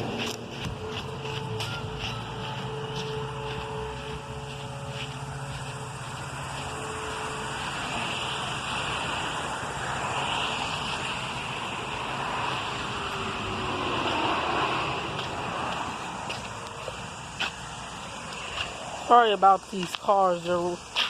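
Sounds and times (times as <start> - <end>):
distant warning siren: 0.0 - 19.7
cars passing: 0.0 - 21.0.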